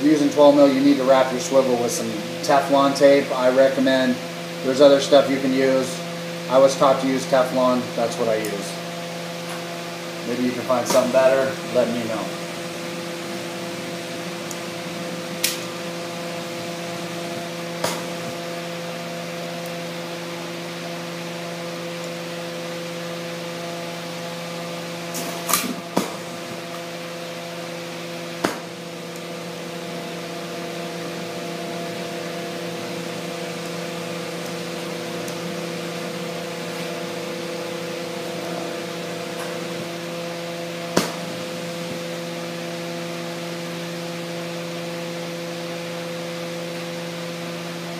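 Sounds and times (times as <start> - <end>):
machine hum with hiss: 0.0 - 47.9.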